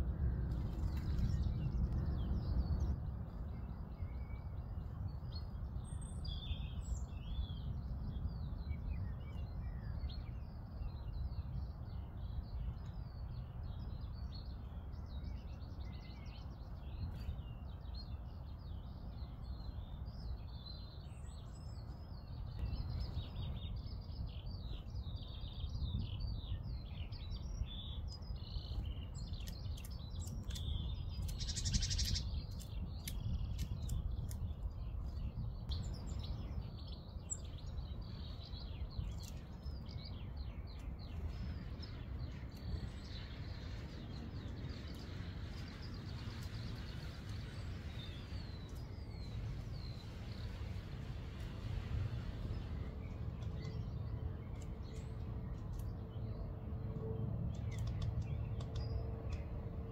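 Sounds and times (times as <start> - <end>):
low background rumble: 0.0 - 59.9
songbirds chirping and singing: 0.6 - 59.9.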